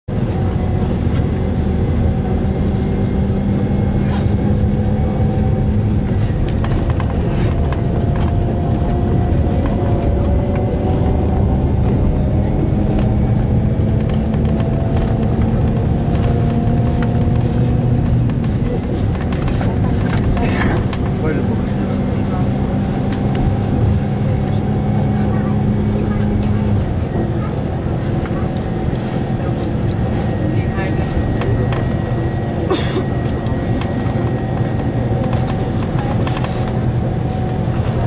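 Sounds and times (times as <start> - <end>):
bus engine and road noise: 0.0 - 38.0.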